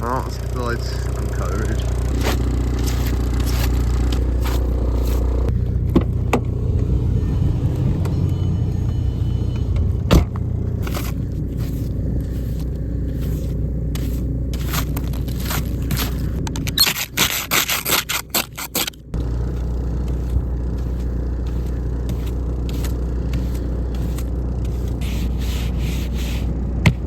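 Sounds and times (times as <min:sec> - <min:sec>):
scraping snow off car: 0:00.0 - 0:05.6, 0:10.7 - 0:27.0
diesel engine idling: 0:00.0 - 0:17.2, 0:18.9 - 0:27.0.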